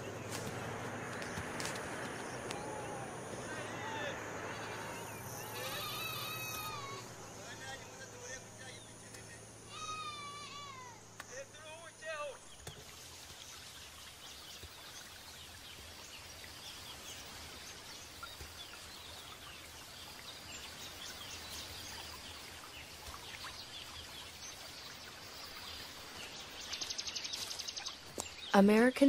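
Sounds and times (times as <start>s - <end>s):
steady background hiss: 0.0s - 28.8s.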